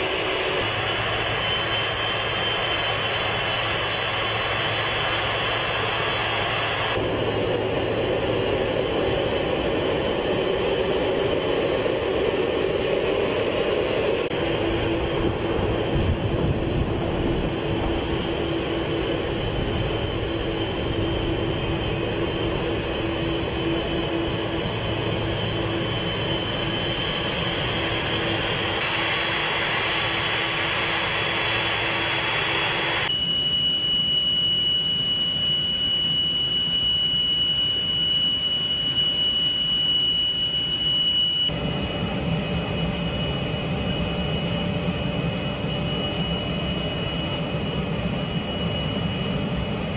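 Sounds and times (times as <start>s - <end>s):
high-pitched engine whine: 0.0s - 49.9s
jet engines roaring: 0.0s - 49.9s.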